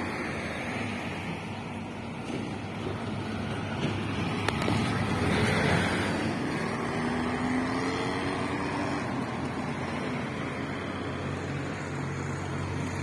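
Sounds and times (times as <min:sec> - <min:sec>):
cars passing on a road: 0:00.0 - 0:13.0.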